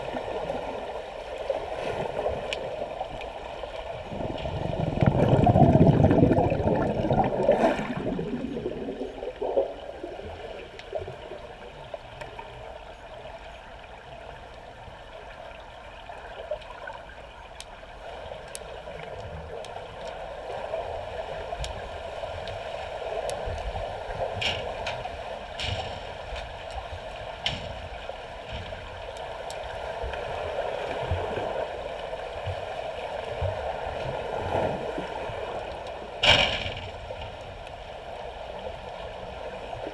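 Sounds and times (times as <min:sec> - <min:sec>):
muffled underwater churning and bubbling: 0:00.0 - 0:39.9.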